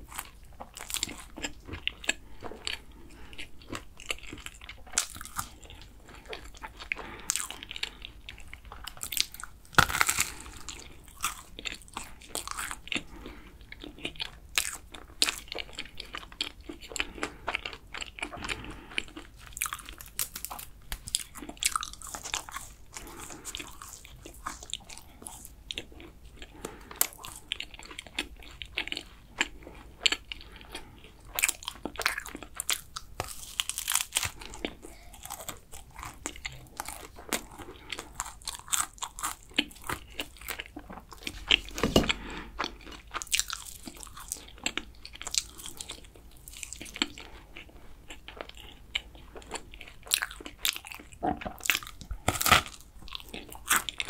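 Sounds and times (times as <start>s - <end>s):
chewing crisp pastry: 0.0s - 54.0s.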